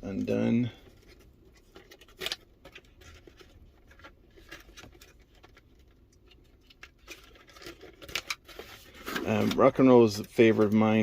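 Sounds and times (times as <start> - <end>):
paper packaging rustling: 0.1 - 11.0.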